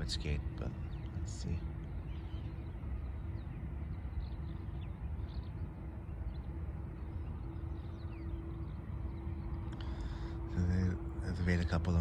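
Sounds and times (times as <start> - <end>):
distant airliner engines rumbling: 0.0 - 12.0.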